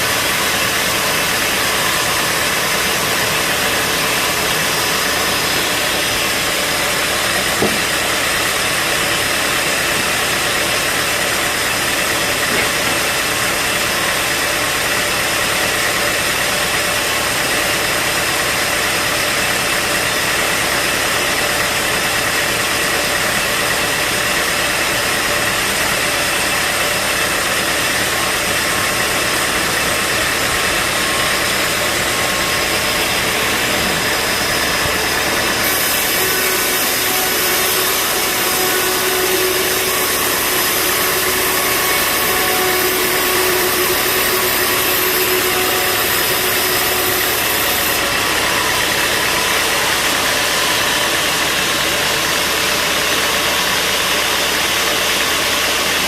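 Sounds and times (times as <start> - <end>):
bandsaw sawmill drone: 0.0 - 56.0
high mechanical whine: 0.0 - 56.0.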